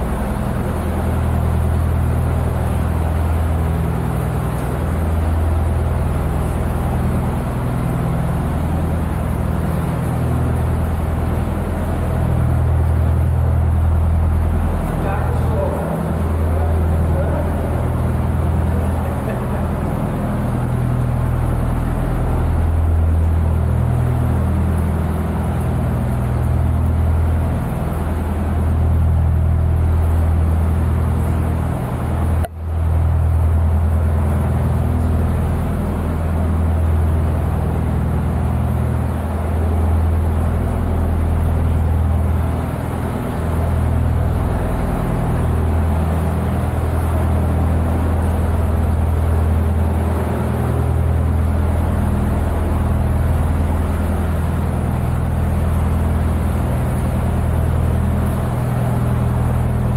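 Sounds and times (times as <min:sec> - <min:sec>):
diesel boat engine droning: 0:00.0 - 0:59.9.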